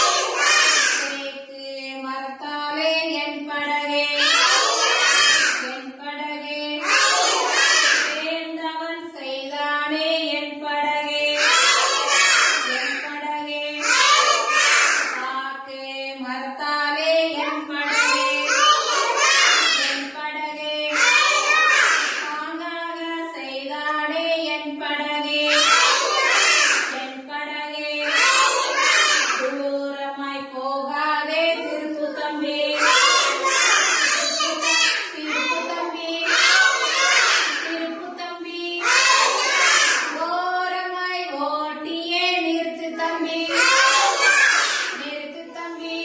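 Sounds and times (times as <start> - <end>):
child singing: 0.0 - 46.0.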